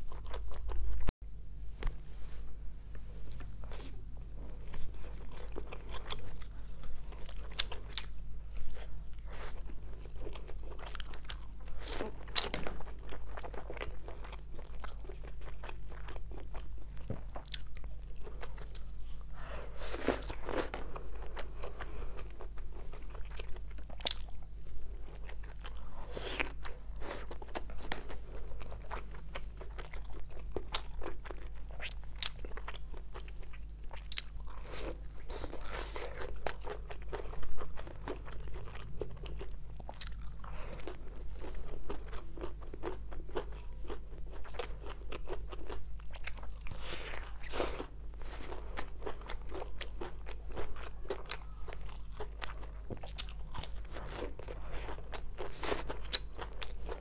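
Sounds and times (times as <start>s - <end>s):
chewing crunchy grilled meat: 0.0s - 1.1s, 3.3s - 57.0s
steady low hum: 0.0s - 57.0s.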